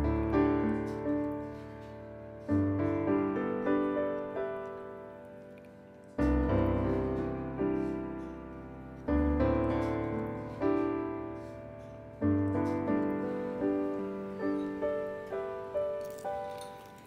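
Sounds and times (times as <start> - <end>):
soft solo piano music: 0.0 - 17.0.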